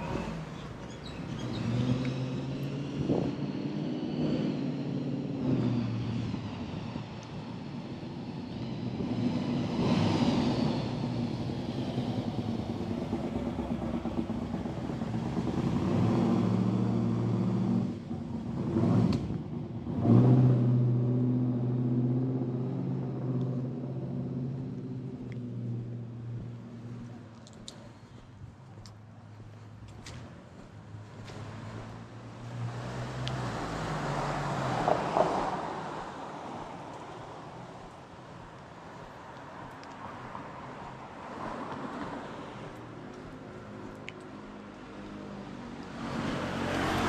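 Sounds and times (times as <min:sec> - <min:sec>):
car engines passing: 0:00.0 - 0:47.0.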